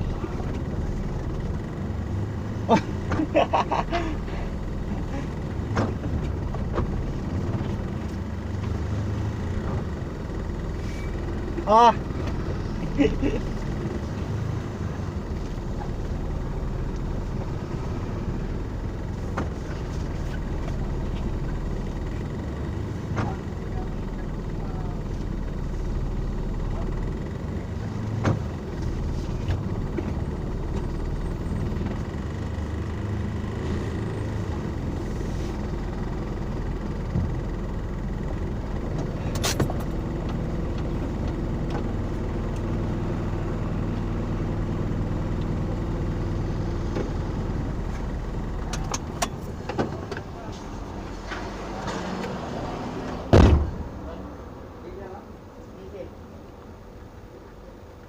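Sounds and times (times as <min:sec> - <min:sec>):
road noise: 0:00.0 - 0:58.0
vehicle engine hum: 0:00.0 - 0:58.0.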